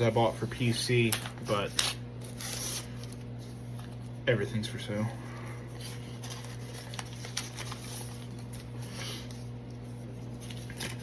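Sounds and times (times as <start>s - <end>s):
low electrical hum: 0.0s - 11.0s
paper mailer rustling: 0.0s - 11.0s.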